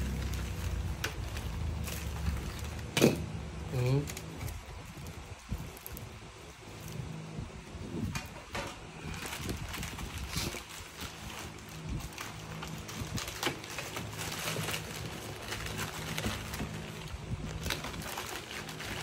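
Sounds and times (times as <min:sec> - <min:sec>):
plastic wrap rustling and crinkling: 0:00.0 - 0:19.0.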